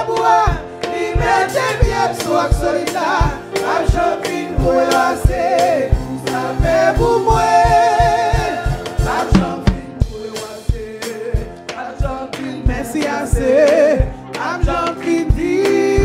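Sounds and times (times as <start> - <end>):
gospel singers and band: 0.0 - 16.0.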